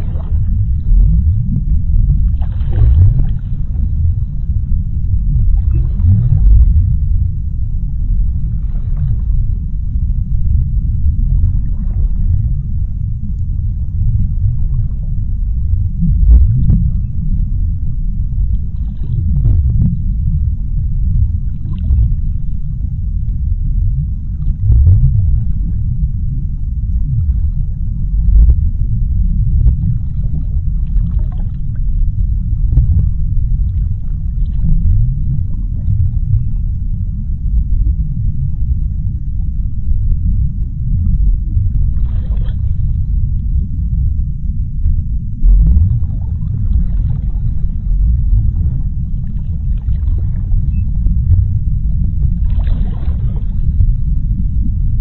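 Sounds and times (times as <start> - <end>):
deep underwater rumble: 0.0 - 55.0.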